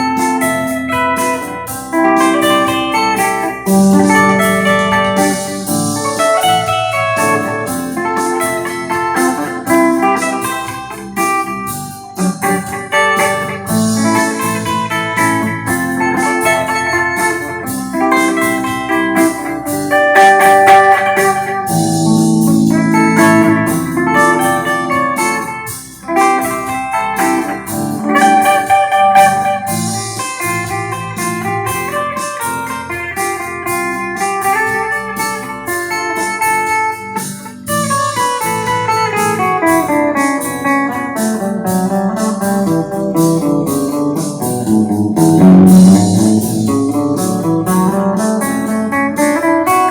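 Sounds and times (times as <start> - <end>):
clean electric guitar melody: 0.0 - 49.9.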